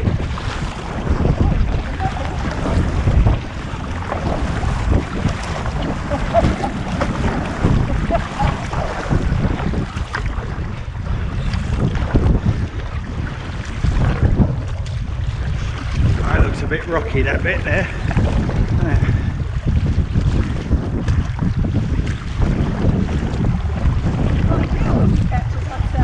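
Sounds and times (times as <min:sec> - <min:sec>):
water splashing and lapping: 0:00.0 - 0:26.0
wind buffeting microphone: 0:00.0 - 0:26.0.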